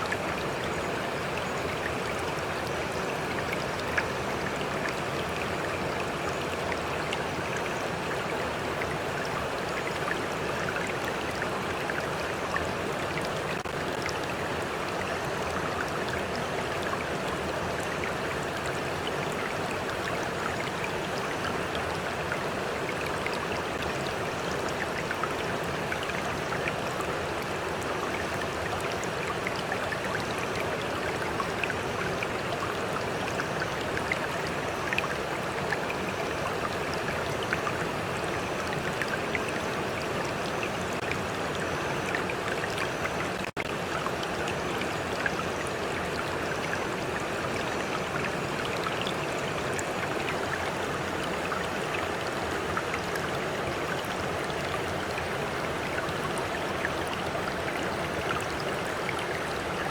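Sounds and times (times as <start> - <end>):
small stream flowing: 0.0 - 59.9.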